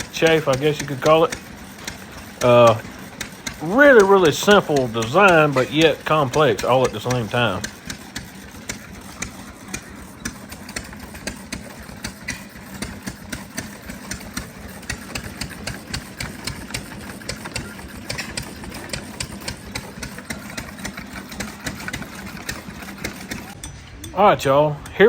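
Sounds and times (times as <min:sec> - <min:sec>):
corn crusher running: 0:00.0 - 0:23.6
clicking and rattling: 0:00.0 - 0:24.2.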